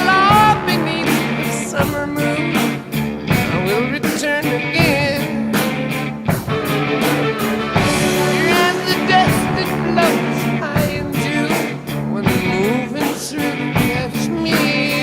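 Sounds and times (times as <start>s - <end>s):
steady drum beat: 0.0s - 14.2s
electric guitar lead lines: 0.0s - 15.0s.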